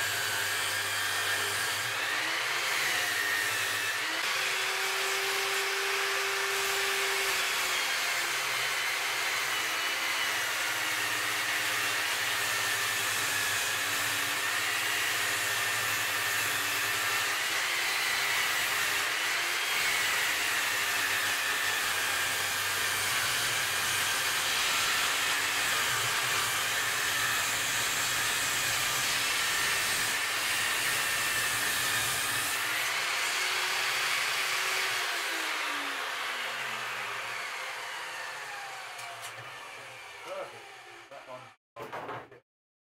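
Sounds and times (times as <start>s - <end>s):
table saw ripping wood: 0.0s - 42.4s.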